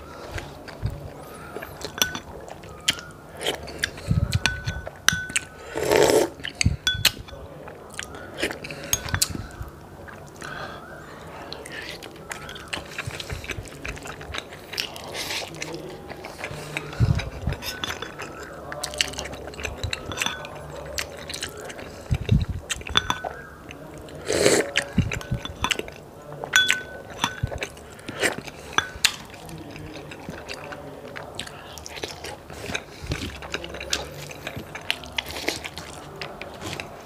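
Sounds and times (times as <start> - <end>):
man chewing with mouth open: 0.0 - 37.0.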